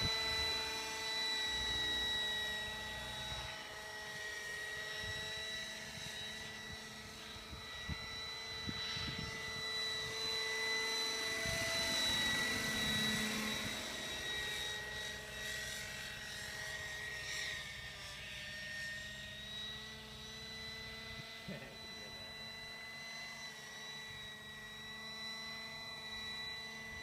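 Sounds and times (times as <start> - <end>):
model helicopter whine: 0.0 - 27.0.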